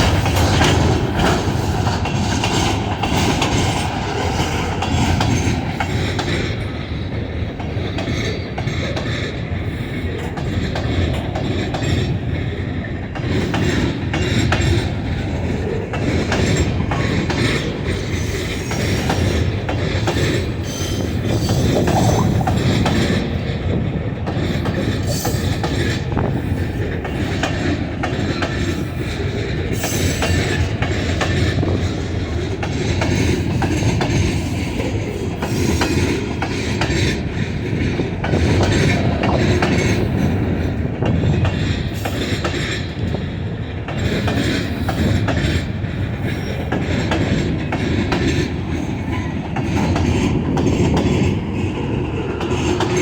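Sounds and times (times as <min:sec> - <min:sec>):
train cars rumbling past: 0:00.0 - 0:53.0.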